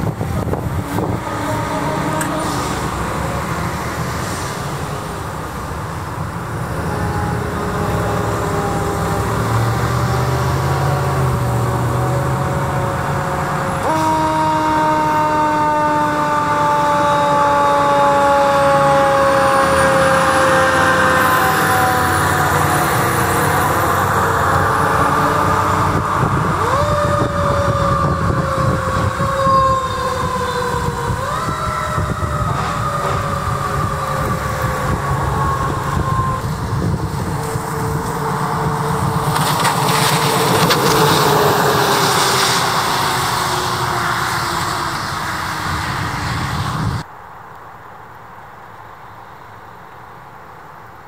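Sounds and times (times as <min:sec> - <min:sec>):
truck engine rumble: 0:00.0 - 0:47.1.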